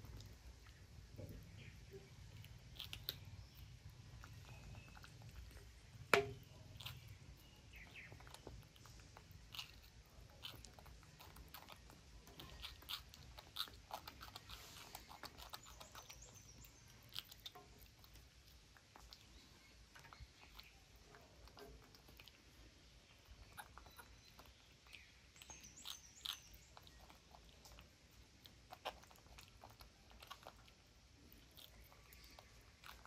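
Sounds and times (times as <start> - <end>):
monkeys chewing vegetables: 0.0 - 33.0.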